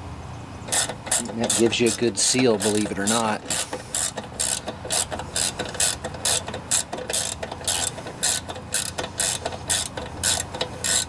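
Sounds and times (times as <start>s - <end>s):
ratchet wrench clicking: 0.7s - 11.0s.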